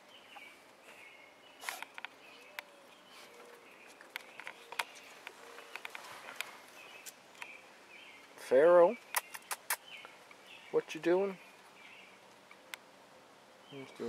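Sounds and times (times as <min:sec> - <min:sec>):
distant birds chirping: 0:00.0 - 0:14.0.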